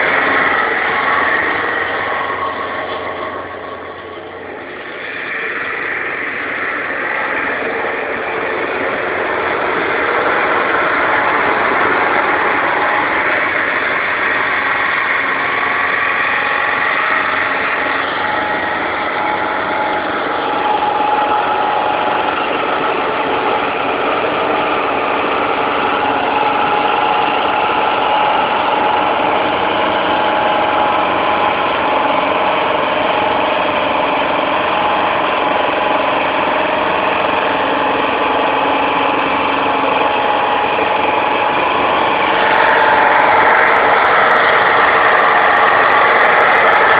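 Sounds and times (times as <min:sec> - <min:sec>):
diesel truck engine under load: 0:00.0 - 0:46.9.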